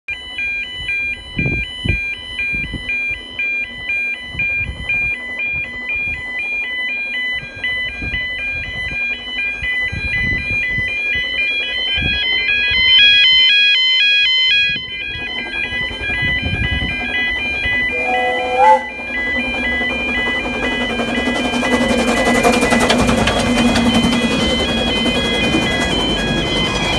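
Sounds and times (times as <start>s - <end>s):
two-tone level crossing alarm: 0.1s - 26.9s.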